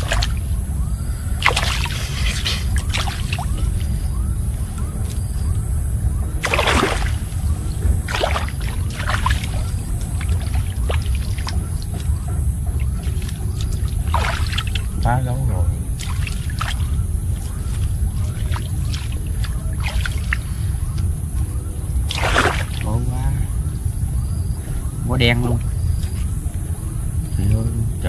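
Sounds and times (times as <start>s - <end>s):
water splashing and dripping: 0.0s - 23.1s
steady low rumble: 0.0s - 28.0s.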